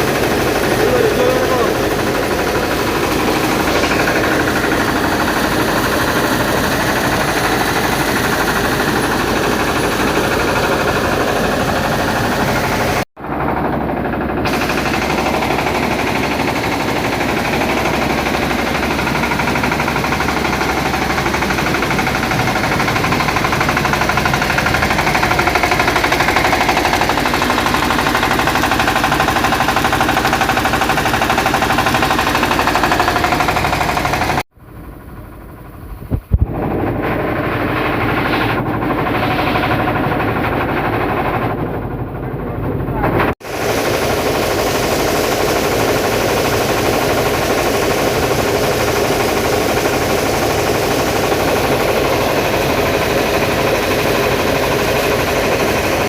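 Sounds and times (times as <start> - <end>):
machine clattering: 0.0 - 34.4, 36.8 - 56.0.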